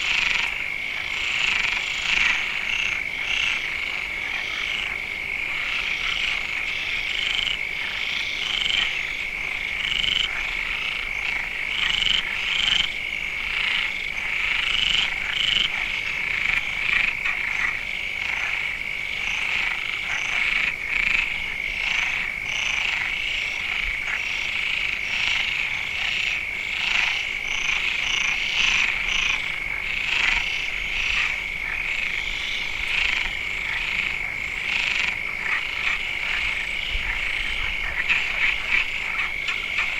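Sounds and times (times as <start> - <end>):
frogs croaking: 0.0 - 39.9
frogs trilling: 0.0 - 39.9.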